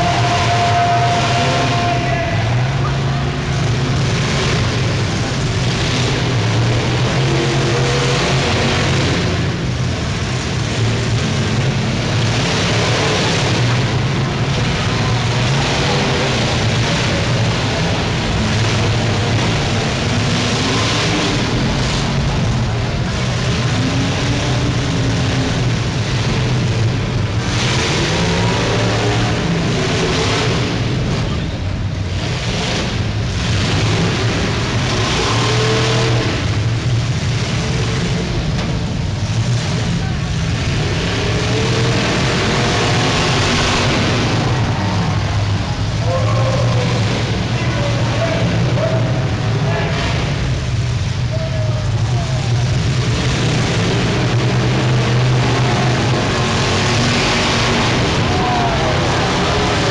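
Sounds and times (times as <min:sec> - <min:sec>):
car engines revving: 0:00.0 - 0:59.9
cars ramming into each other: 0:00.0 - 0:59.9.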